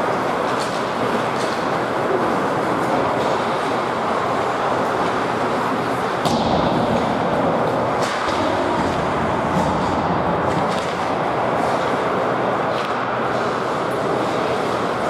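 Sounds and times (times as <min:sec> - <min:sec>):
arena noise: 0:00.0 - 0:15.0
hockey sticks and skates on ice: 0:00.0 - 0:15.0.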